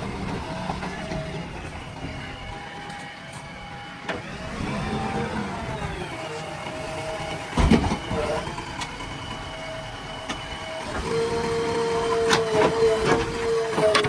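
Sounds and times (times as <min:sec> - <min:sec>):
diesel engine whining: 0:00.0 - 0:14.0.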